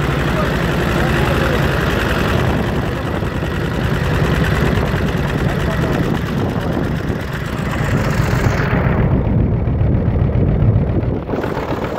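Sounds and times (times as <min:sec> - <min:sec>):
tractor engine rumbling: 0:00.0 - 0:11.9.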